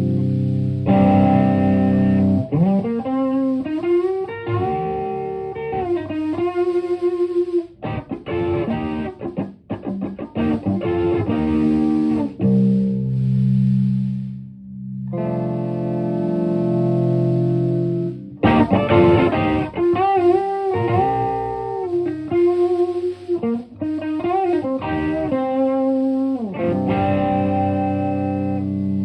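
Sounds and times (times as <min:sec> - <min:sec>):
overdriven electric guitar: 0:00.0 - 0:29.0.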